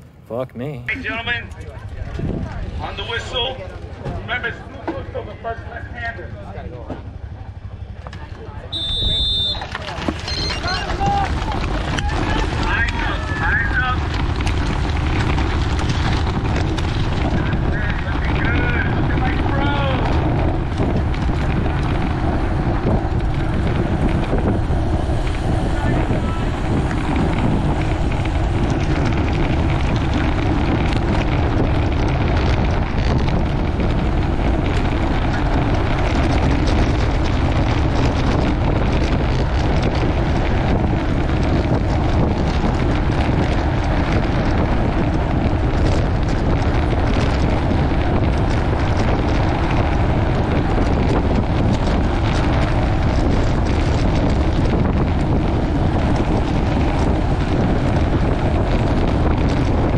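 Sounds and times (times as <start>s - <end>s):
bike tyres on rough pavement: 0.0s - 59.9s
wind buffeting the microphone: 0.0s - 59.9s.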